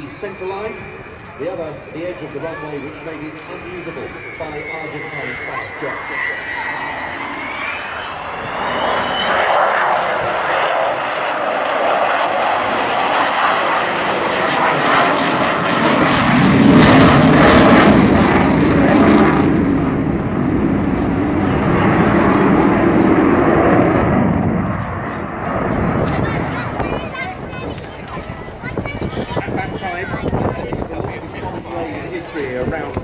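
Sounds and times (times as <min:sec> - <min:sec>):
jet aircraft roaring overhead: 0:00.0 - 0:33.0.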